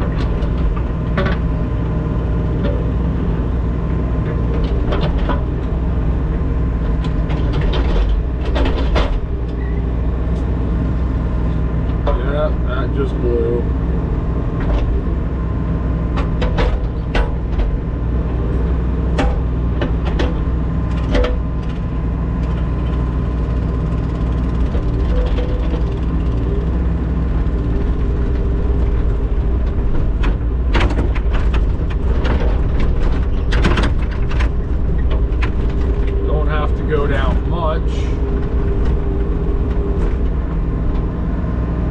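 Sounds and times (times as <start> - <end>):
loader engine running: 0.0 - 41.9.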